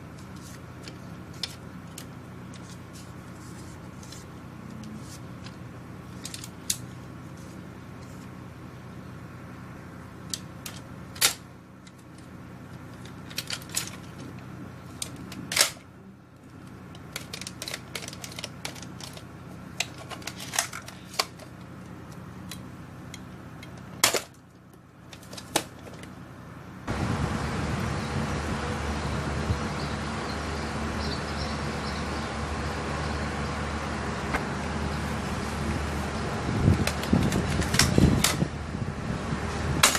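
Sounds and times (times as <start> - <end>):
steady background noise: 0.0 - 39.9.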